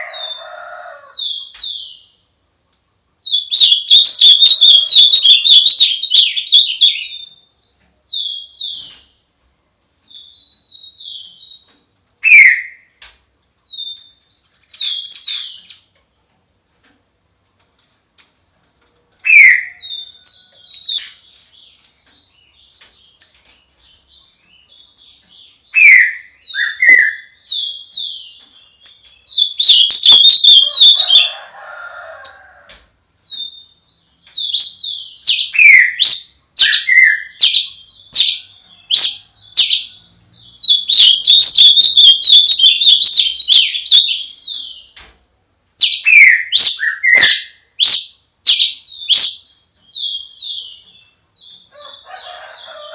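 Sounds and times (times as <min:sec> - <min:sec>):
songbirds singing: 0:00.0 - 0:52.9.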